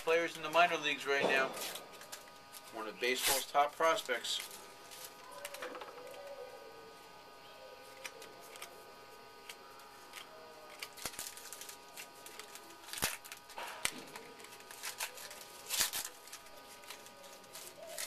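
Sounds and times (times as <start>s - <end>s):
cards clicking and rustling: 0.2s - 6.4s, 7.8s - 18.0s.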